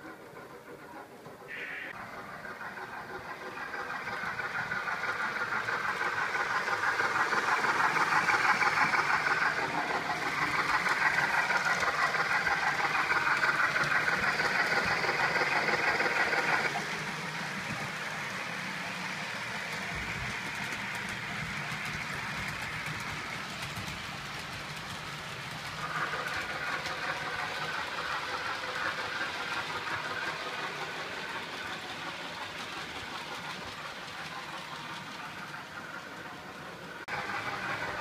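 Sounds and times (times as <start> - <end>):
synthesised steam locomotive sound: 0.0 - 38.0.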